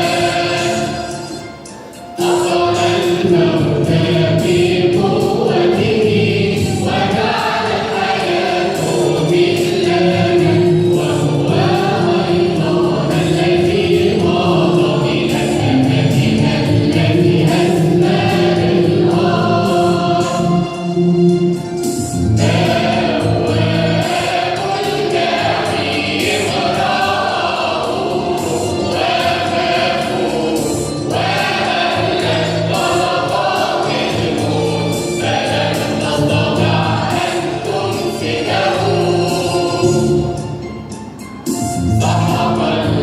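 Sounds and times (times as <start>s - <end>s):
church choir singing: 0.0s - 43.0s.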